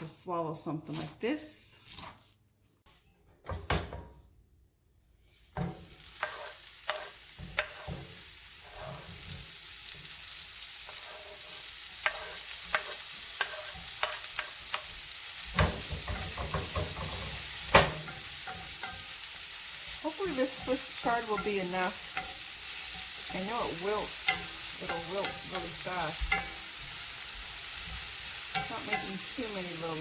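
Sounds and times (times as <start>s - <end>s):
utensil stirring in a pan: 0.6s - 3.2s, 5.2s - 30.0s
greens sizzling in a pan: 5.2s - 30.0s.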